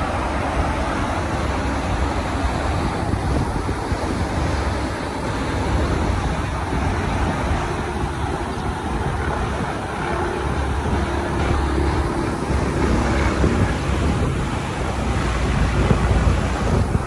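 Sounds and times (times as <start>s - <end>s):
road traffic: 0.0s - 17.0s
wind buffeting microphone: 0.0s - 17.0s.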